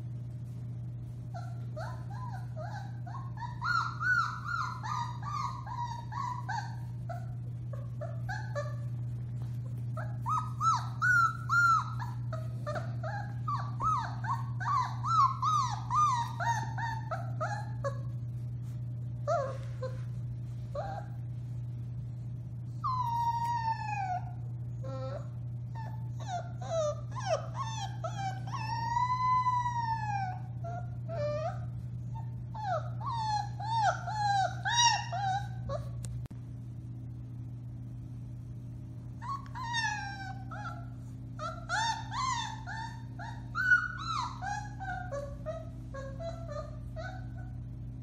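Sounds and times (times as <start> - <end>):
puppies howling and whimpering: 1.2 - 18.4, 19.1 - 21.5, 22.7 - 36.0, 39.2 - 48.0.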